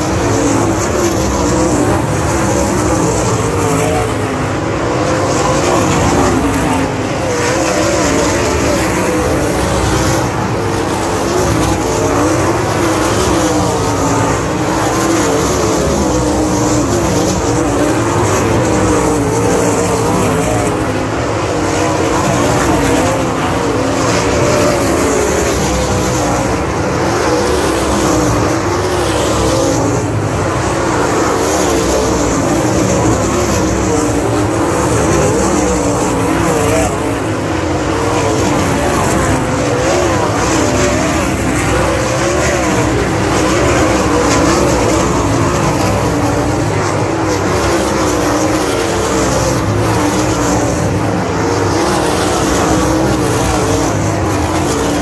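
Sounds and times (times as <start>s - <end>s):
racing car engines running hard: 0.0s - 55.0s.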